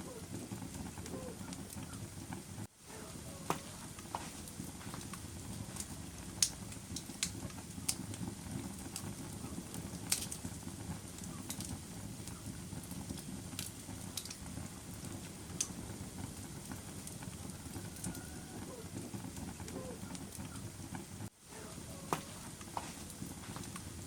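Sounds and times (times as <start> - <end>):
fire crackling and popping: 0.0 - 24.0
fire rumbling in fireplace: 0.0 - 24.0.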